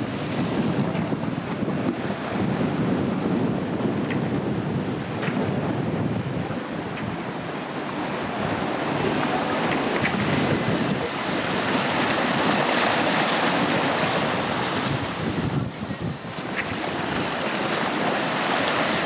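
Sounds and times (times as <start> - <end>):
bow wave splashing: 0.0 - 19.0
water rushing along hull: 0.0 - 19.0
wind buffeting microphone: 0.0 - 19.0.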